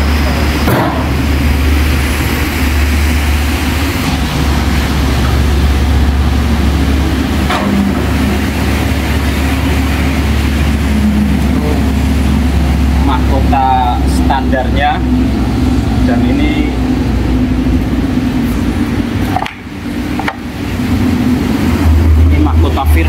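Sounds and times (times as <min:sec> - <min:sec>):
engine rumbling steadily: 0:00.0 - 0:23.0.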